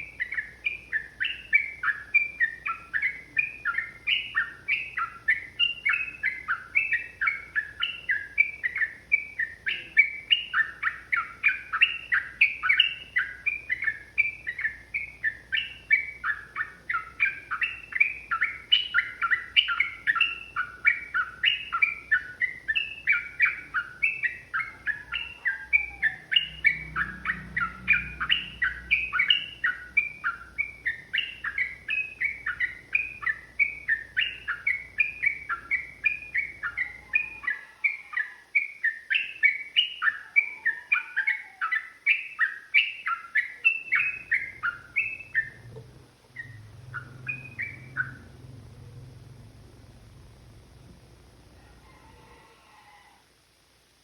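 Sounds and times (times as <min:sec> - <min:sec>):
bird singing chattering notes: 0:00.0 - 0:49.9.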